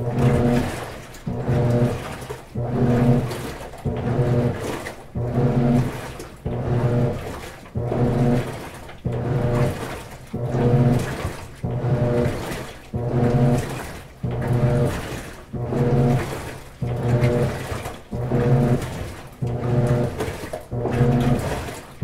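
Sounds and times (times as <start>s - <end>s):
washing machine motor humming: 0.0s - 22.0s
water sloshing in tub: 0.0s - 22.0s.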